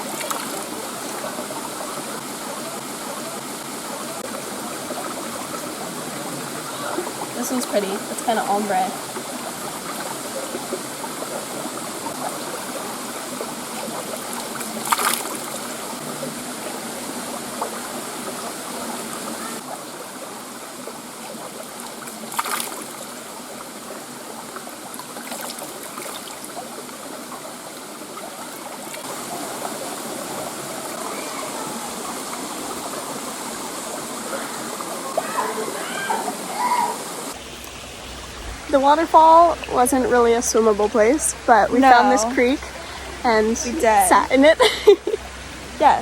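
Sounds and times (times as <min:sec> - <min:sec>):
creek water running over rocks: 0:00.0 - 0:46.0.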